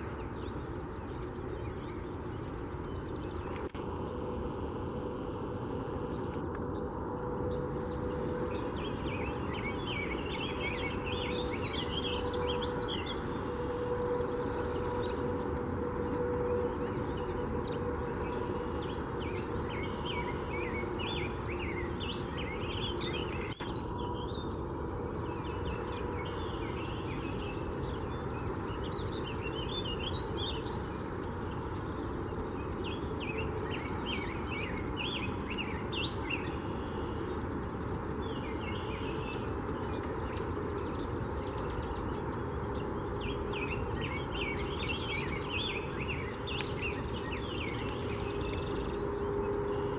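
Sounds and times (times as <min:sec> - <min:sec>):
songbirds chirping and singing: 0:00.0 - 0:49.9.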